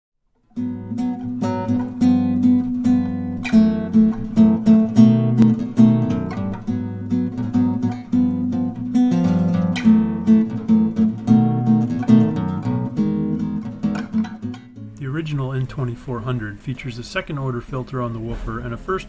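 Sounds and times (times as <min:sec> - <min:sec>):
acoustic guitar strummed chords: 0:00.4 - 0:19.0.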